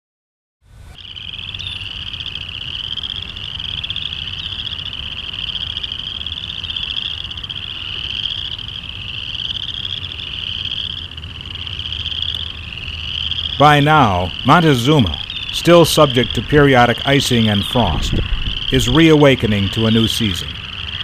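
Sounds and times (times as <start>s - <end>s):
frogs trilling: 0.9s - 21.0s.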